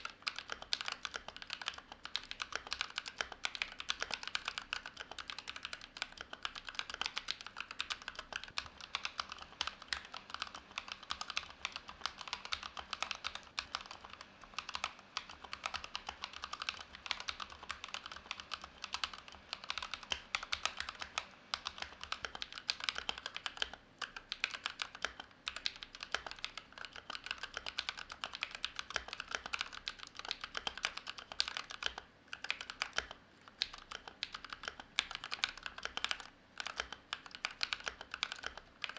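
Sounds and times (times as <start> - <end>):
mechanical keyboard key clacks: 0.0 - 38.9.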